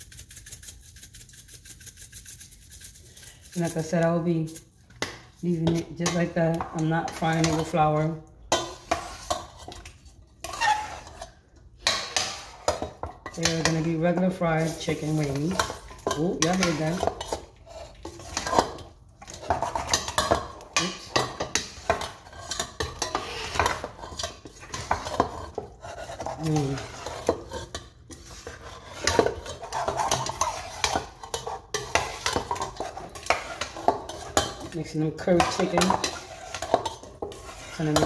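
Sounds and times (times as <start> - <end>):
metal utensil scraping pot: 0.0 - 38.0.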